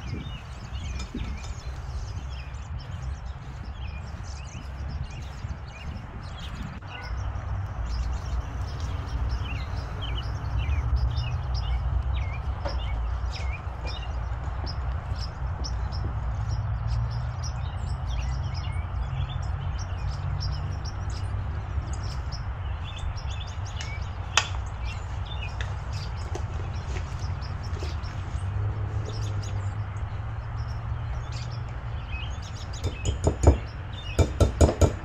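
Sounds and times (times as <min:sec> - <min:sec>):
steady low rumble: 0:00.0 - 0:32.8
small birds chirping: 0:00.0 - 0:35.0.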